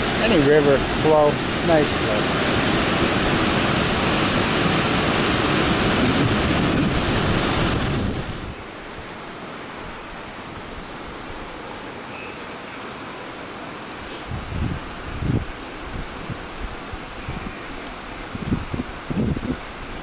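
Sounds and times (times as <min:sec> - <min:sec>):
stream water rushing: 0:00.0 - 0:20.0
waterfall rushing loudly: 0:00.0 - 0:20.0.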